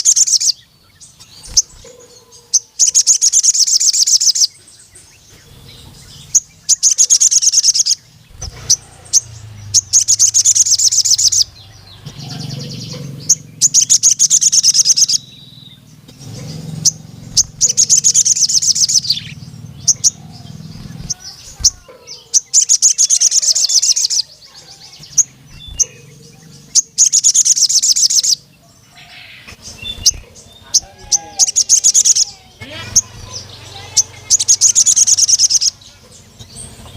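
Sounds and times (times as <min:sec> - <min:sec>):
sunbird chirping trills: 0:00.0 - 0:36.9.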